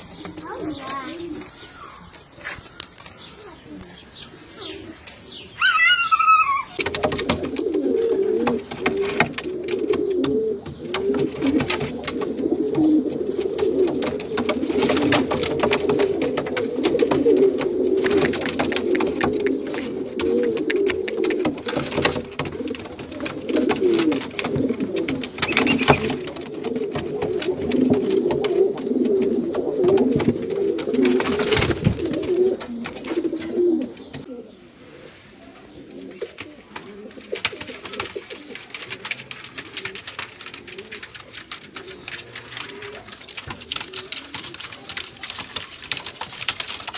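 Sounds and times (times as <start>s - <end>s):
pigeons cooing: 0.0s - 2.1s, 3.4s - 46.9s.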